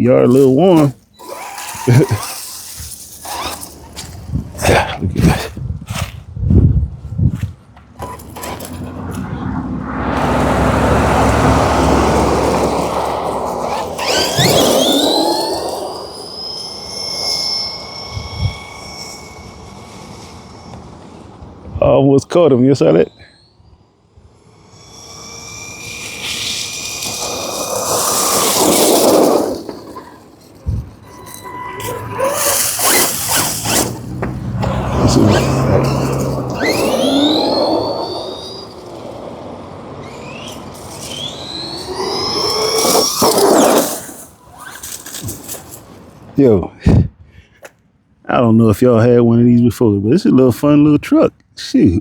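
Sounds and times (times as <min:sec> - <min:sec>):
tyres on asphalt: 0:00.0 - 0:52.0
rc truck motor whining: 0:00.2 - 0:06.1, 0:07.8 - 0:21.8, 0:22.7 - 0:46.3.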